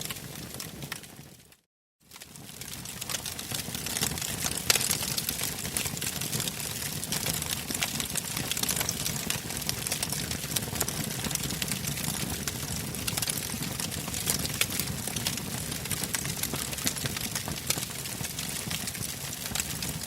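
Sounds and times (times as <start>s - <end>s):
wood fire crackling and popping: 0.0s - 20.0s
low rumble of flames: 2.2s - 19.8s.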